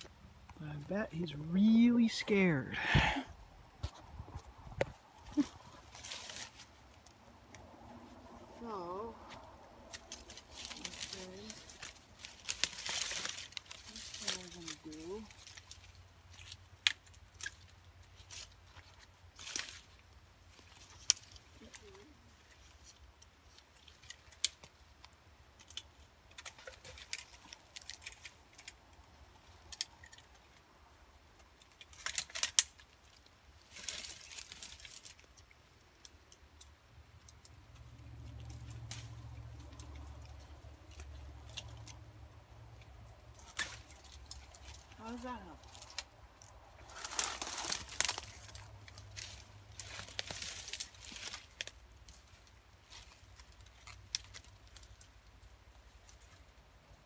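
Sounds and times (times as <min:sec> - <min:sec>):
brush rustling: 0:00.0 - 0:57.0.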